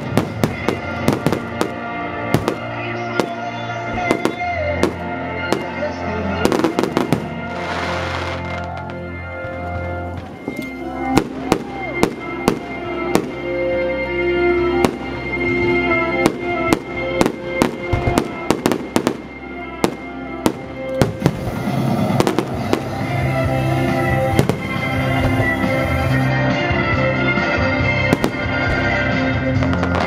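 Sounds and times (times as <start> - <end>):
fireworks bursting: 0.0 - 5.8, 6.4 - 13.7, 14.7 - 26.4, 28.0 - 30.0
music with sustained notes: 0.0 - 30.0.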